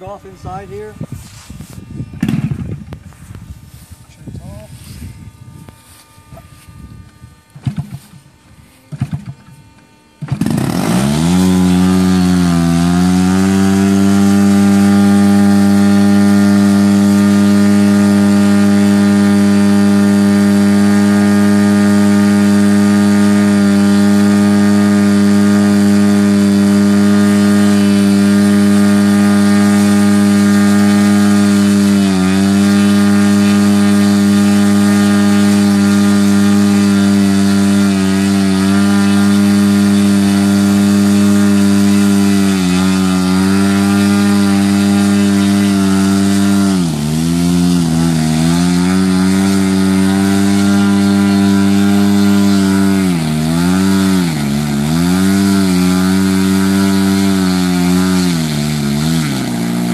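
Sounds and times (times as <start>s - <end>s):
model airplane engine running: 0.0s - 59.9s.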